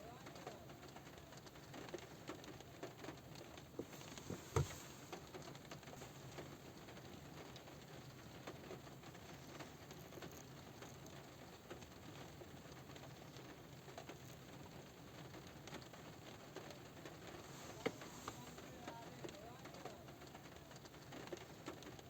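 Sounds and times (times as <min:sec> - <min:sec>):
rain tapping on a car roof: 0:00.0 - 0:22.0.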